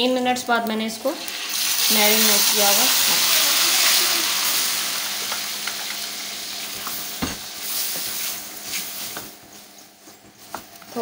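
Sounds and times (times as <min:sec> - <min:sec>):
liver sizzling in hot oil: 0:00.8 - 0:09.9.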